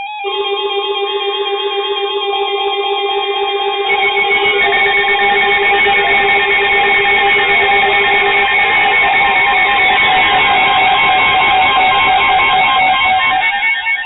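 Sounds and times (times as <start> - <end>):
pulsing electronic alarm beeps: 0.0 - 14.0.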